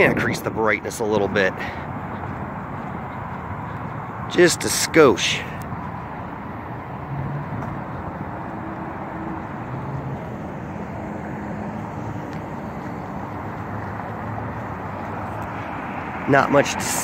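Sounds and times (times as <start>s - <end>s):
road traffic hum: 0.0s - 17.0s.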